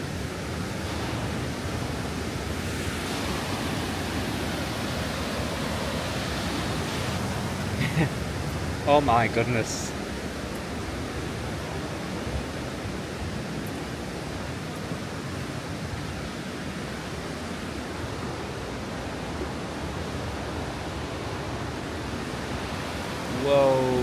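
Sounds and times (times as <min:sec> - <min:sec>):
steady rushing outdoor noise: 0:00.0 - 0:24.0.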